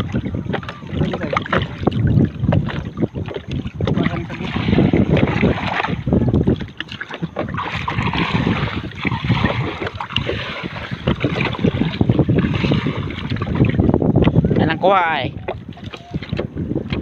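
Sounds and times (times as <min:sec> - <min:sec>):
seawater sloshing and splashing: 0:00.0 - 0:17.0
wind on microphone: 0:00.0 - 0:17.0.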